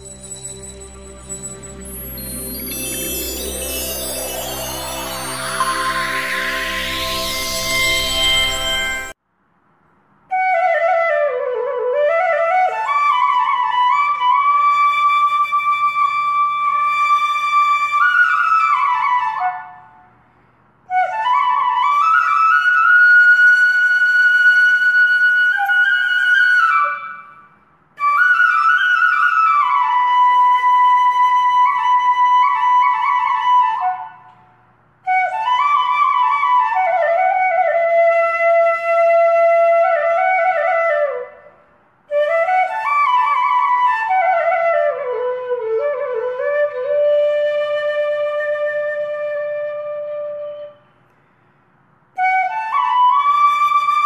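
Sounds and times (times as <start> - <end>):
slow solo flute melody: 0.0 - 9.2, 10.3 - 20.1, 20.9 - 51.1, 52.1 - 54.0.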